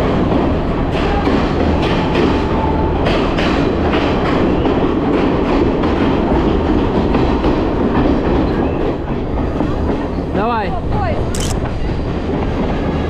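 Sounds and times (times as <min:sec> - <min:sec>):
train rushing through tunnel: 0:00.0 - 0:13.0.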